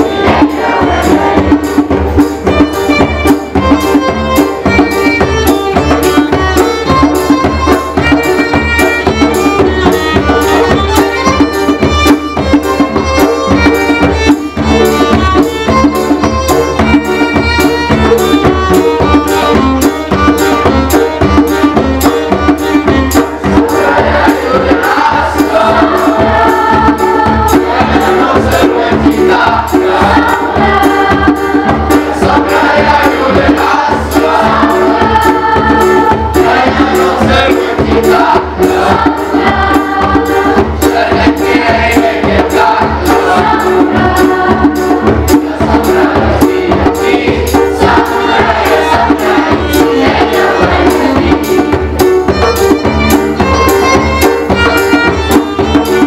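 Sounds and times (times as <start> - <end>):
youth choir singing: 0.0 - 19.8, 22.8 - 52.4
hand drum beat: 0.0 - 56.0
violin: 0.0 - 56.0.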